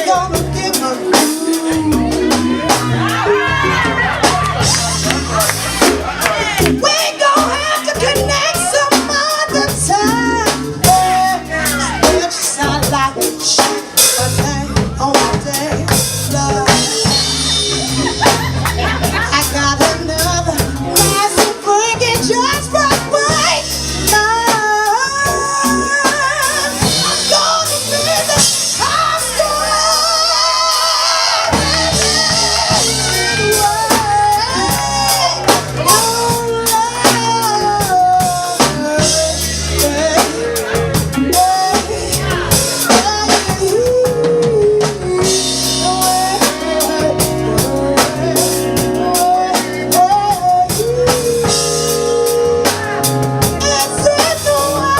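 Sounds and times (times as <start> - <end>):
drum kit: 0.0 - 54.9
person singing: 0.0 - 54.9.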